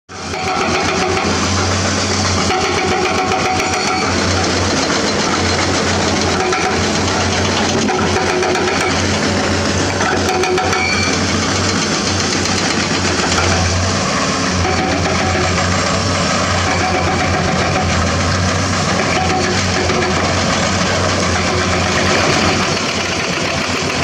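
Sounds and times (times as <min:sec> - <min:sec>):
excavator diesel engine running: 0:00.1 - 0:24.0.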